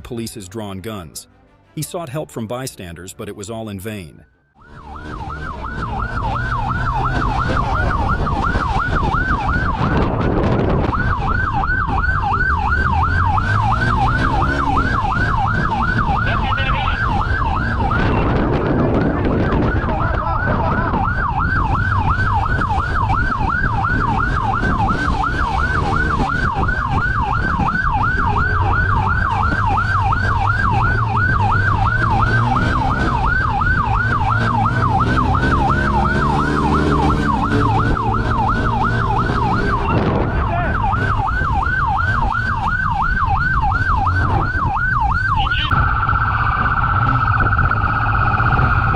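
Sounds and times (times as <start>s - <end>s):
road noise: 0.0s - 48.9s
police siren yelping: 4.6s - 48.9s
vehicle engine: 4.6s - 48.9s.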